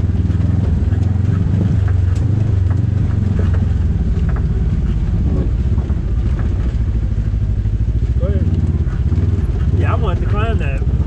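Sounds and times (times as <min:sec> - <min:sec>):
utility vehicle engine running: 0:00.0 - 0:11.0.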